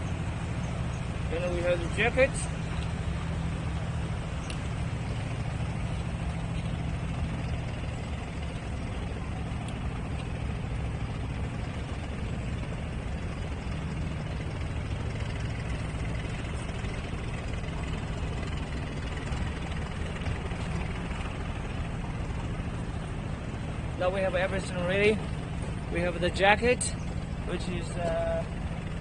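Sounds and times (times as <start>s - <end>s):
engine idling: 0.0s - 29.0s
traffic noise: 0.0s - 29.0s.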